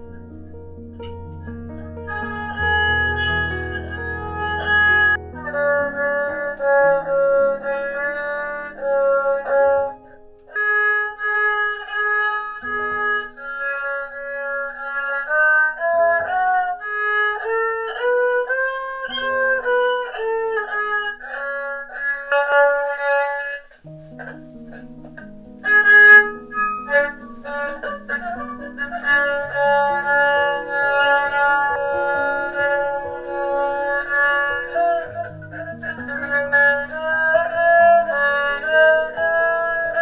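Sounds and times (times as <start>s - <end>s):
bowed fiddle slow melody: 0.0s - 40.0s.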